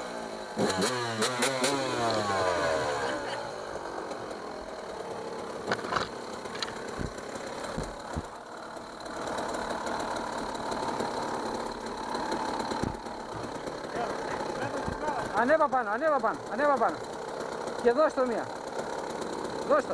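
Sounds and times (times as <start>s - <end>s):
dirt bike engine idling: 0.0s - 19.9s.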